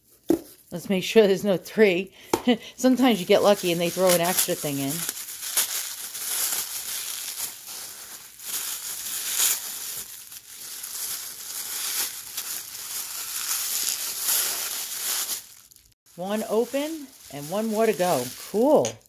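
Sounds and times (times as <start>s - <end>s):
tissue paper crinkling: 2.9s - 19.0s.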